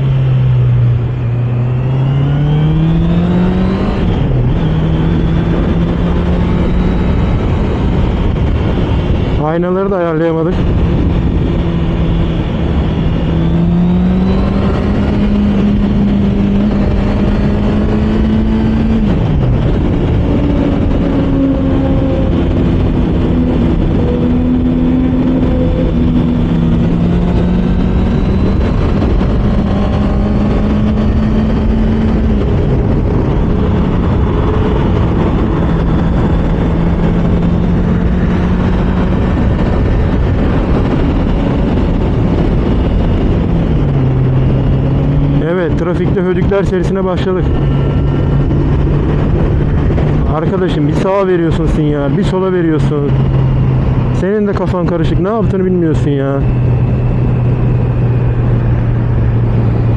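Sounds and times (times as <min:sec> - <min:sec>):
wind rush on microphone: 0:00.0 - 0:59.9
motorcycle engine running: 0:10.6 - 0:59.9.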